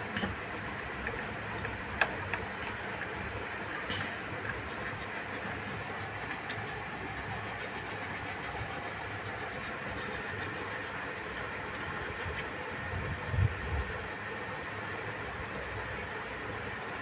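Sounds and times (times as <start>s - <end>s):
steady rumbling noise: 0.0s - 17.0s.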